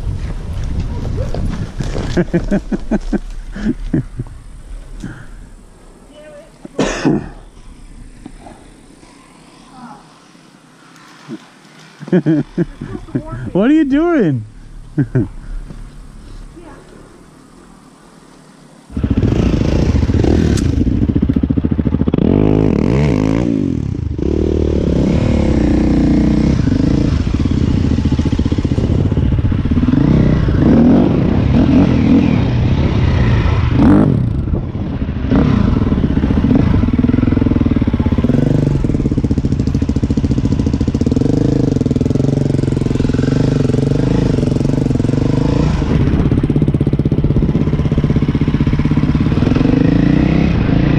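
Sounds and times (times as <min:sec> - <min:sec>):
dirt bike engine revving: 0:06.8 - 0:16.3, 0:18.9 - 0:50.9.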